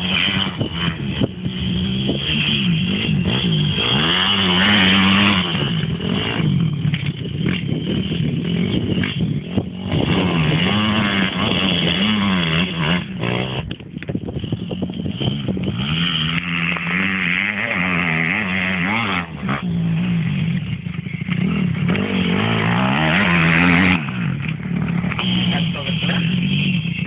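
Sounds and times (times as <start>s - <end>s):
motocross motorcycle engine revving: 0.0s - 27.0s.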